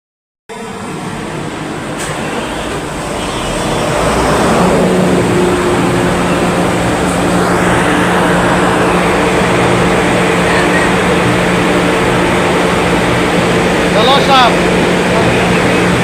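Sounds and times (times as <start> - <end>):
mechanical hum with low drone: 0.5 - 16.0.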